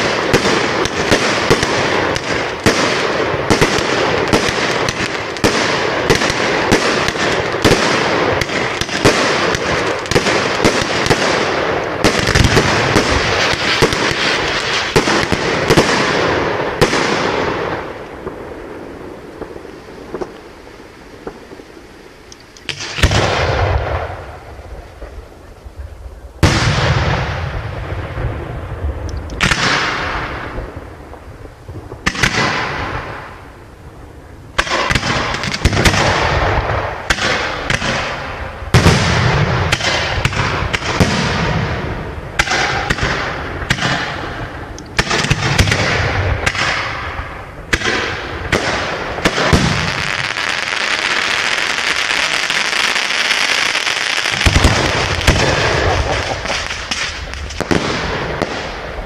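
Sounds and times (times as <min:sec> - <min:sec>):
fireworks bangs: 0:00.0 - 0:59.0
fireworks crackling hiss: 0:00.0 - 0:59.0.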